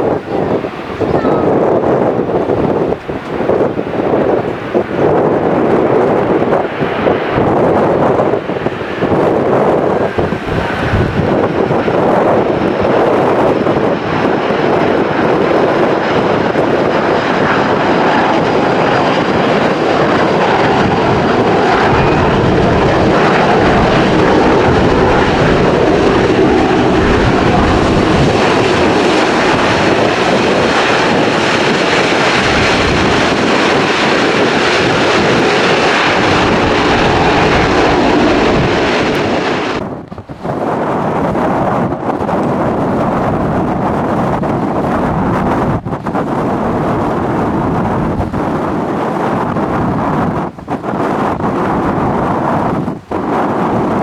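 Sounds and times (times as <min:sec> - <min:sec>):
airliner engines roaring: 0:00.0 - 0:54.0.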